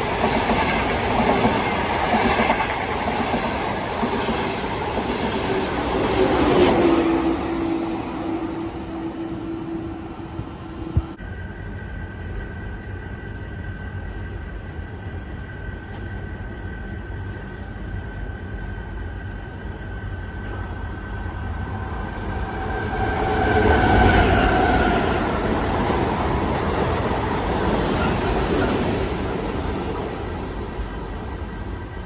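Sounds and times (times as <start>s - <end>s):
train rumble with high whine: 0.0s - 32.0s.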